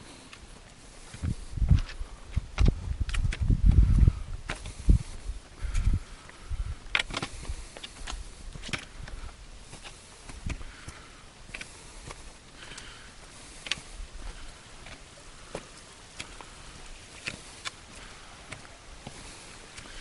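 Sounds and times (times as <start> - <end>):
footsteps on a trail: 0.0 - 20.0.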